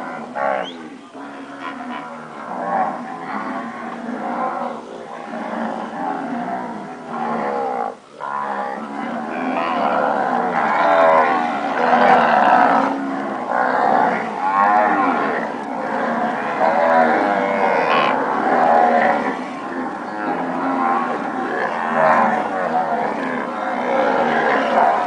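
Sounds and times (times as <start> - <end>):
cows and calves mooing: 0.0 - 25.0.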